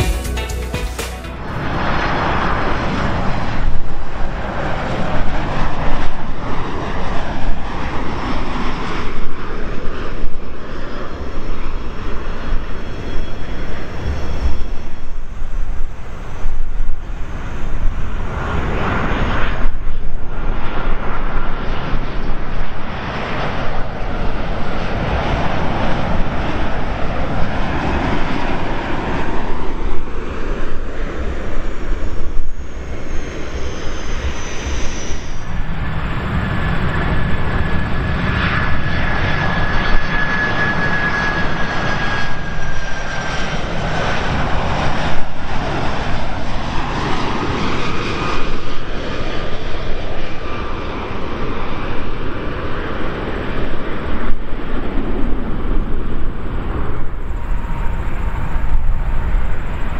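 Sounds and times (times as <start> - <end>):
jet airliners flying low overhead: 1.2 - 59.9
jet engine whine: 1.2 - 59.9.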